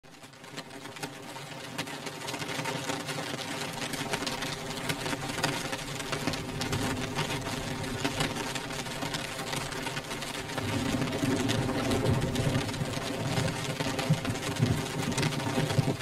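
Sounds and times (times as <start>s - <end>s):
raindrops ticking on glass: 0.1s - 16.0s
steady wash of rain: 0.1s - 16.0s.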